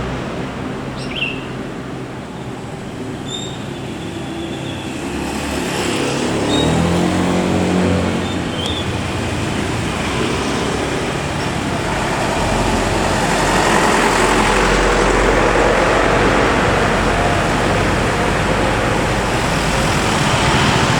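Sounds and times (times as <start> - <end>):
bus engine pulling away: 0.0 - 20.9
road noise: 0.0 - 20.9.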